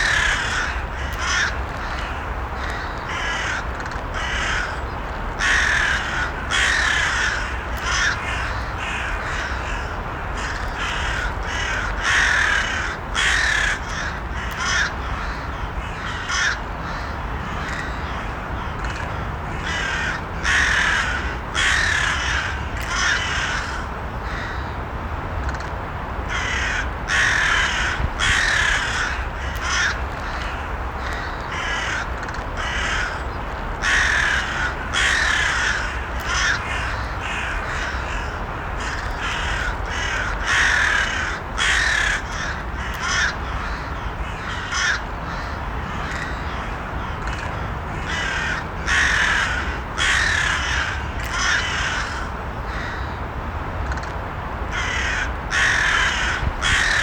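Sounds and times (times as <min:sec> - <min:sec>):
crows cawing: 0:00.0 - 0:24.8, 0:26.3 - 0:53.2, 0:54.7 - 0:57.0.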